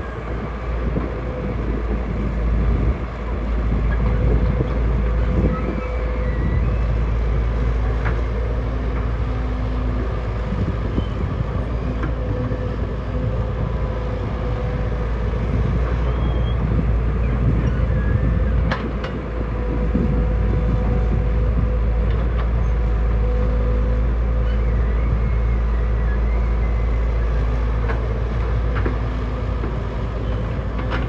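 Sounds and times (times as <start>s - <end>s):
diesel machinery drone: 0.0s - 31.0s.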